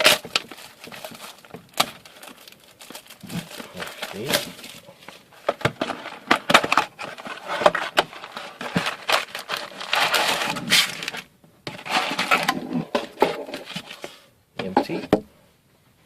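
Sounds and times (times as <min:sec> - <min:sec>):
foil wrappers crinkling: 0:00.0 - 0:14.1.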